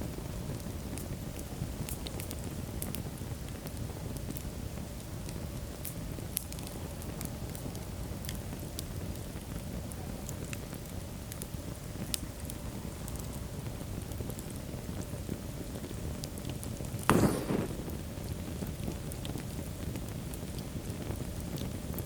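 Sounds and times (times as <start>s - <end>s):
fire crackling and popping: 0.0s - 22.0s
wood fire burning: 0.0s - 22.0s.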